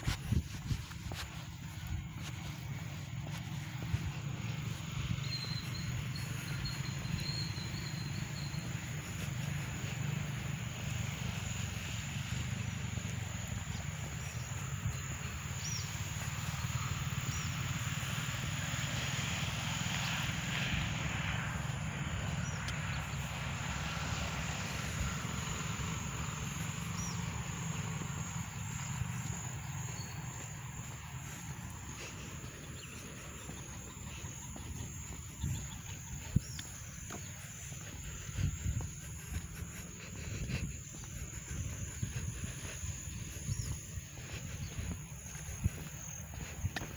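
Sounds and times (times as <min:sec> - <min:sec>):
faint insects: 0:00.0 - 0:46.9
wind rumbling on microphone: 0:00.0 - 0:46.9.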